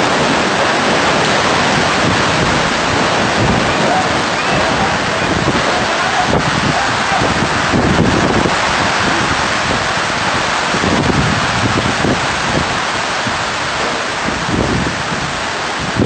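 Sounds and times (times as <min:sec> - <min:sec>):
heavy rain on stone: 0:00.0 - 0:16.0
wind rumbling on microphone: 0:00.0 - 0:16.0.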